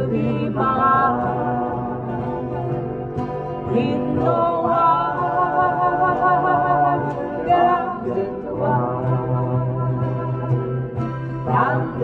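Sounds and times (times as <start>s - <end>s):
acoustic guitars strumming: 0.0s - 12.0s
voices singing in harmony: 0.0s - 12.0s.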